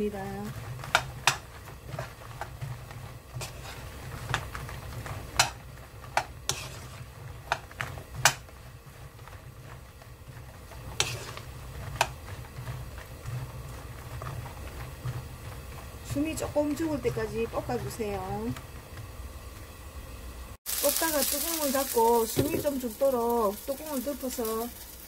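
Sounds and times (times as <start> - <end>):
low steady hum: 0.0 - 25.0
peppers sizzling in oil: 0.0 - 25.0.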